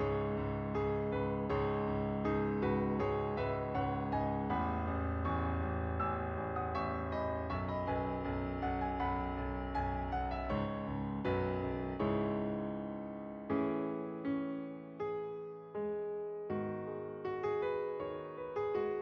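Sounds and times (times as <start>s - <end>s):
gentle solo piano melody: 0.0s - 19.0s.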